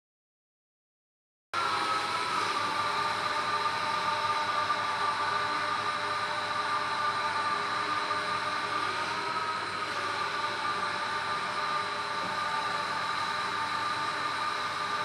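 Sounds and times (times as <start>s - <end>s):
electric drive whine: 1.6s - 15.0s.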